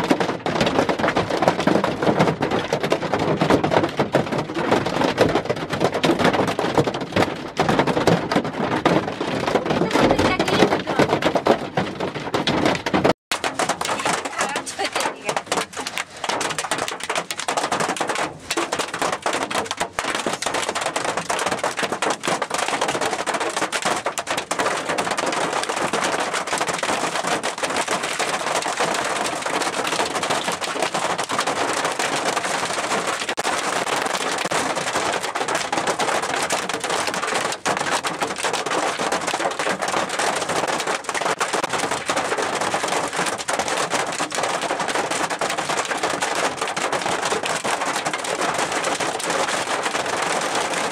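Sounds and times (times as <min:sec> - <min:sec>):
hail and heavy rain pelting: 0:00.0 - 0:50.9.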